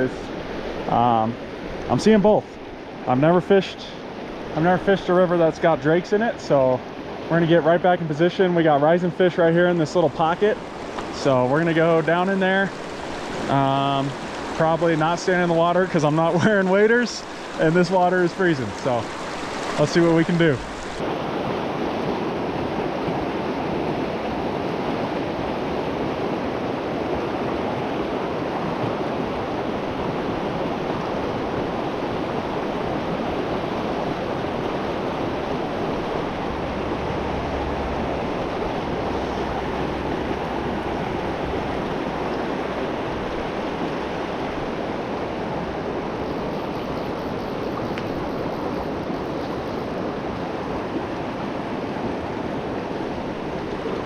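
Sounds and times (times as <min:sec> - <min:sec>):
river water rushing over rocks: 0:09.4 - 0:54.0.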